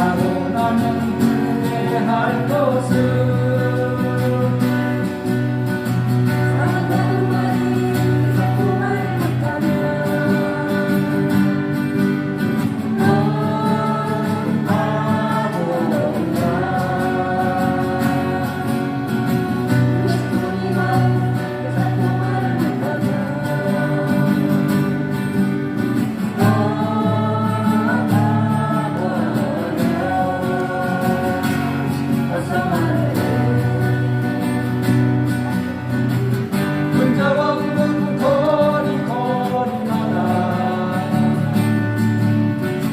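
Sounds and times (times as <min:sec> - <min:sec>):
person singing: 0:00.0 - 0:05.3, 0:05.9 - 0:35.8, 0:36.9 - 0:41.8
acoustic guitars strumming: 0:00.0 - 0:42.9
steady bass: 0:00.0 - 0:42.9.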